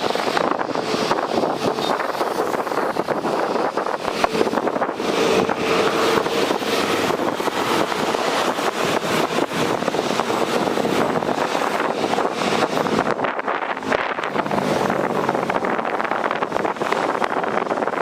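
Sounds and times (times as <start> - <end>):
jet engines running: 0.0 - 18.0
wind buffeting microphone: 0.0 - 18.0.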